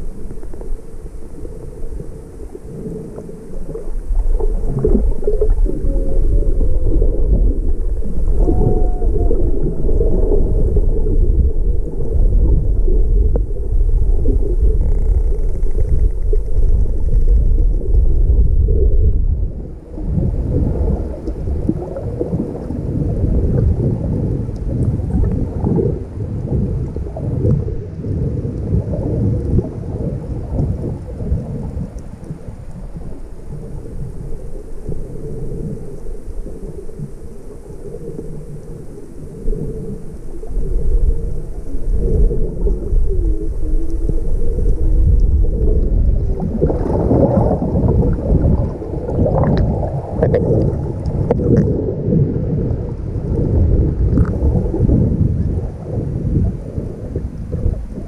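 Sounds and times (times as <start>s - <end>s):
muffled underwater water rush: 0.0s - 58.0s.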